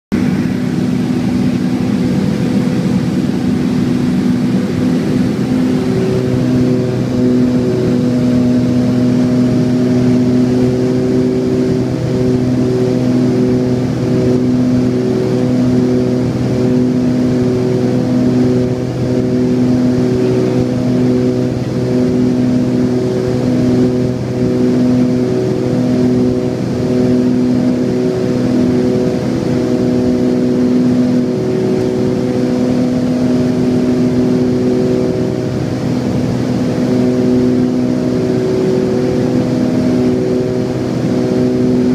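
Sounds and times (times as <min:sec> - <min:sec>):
pulsing twin propeller engine drone: 0:00.1 - 0:41.9.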